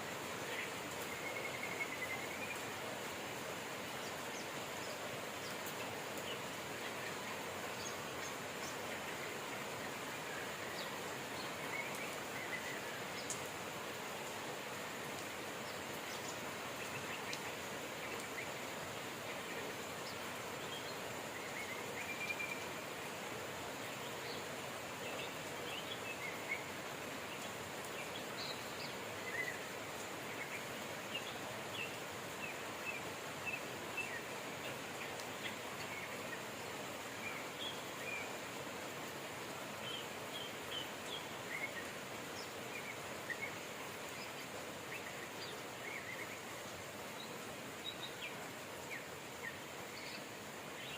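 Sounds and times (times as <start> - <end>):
steady rain: 0.0 - 50.9
birds chirping: 0.1 - 50.9.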